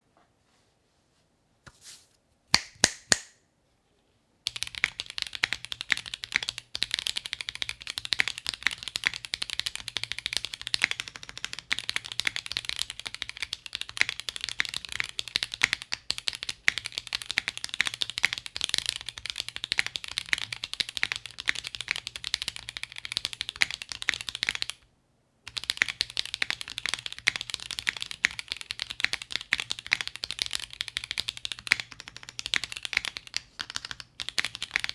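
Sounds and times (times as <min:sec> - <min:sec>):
mechanical keyboard typing: 0:04.5 - 0:24.8, 0:25.5 - 0:34.9.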